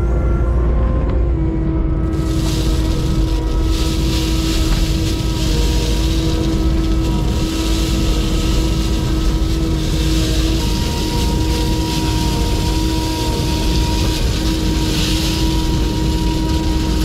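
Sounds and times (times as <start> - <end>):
diesel engine whining: 0.0 - 17.0
crushed stone pouring: 2.1 - 17.0.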